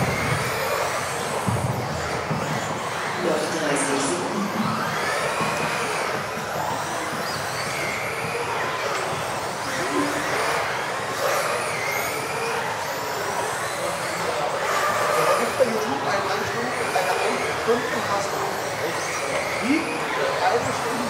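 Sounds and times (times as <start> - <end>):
rc car motors whining: 0.0 - 21.0.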